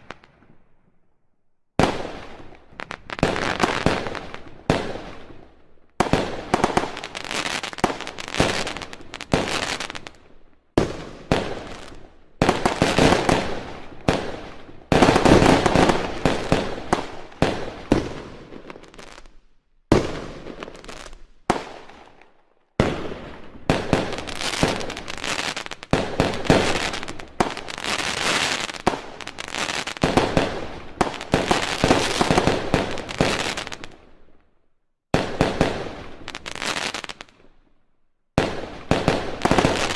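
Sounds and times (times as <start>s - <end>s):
fireworks bangs and crackling pops: 0.0s - 0.8s, 1.8s - 34.4s, 35.1s - 39.9s.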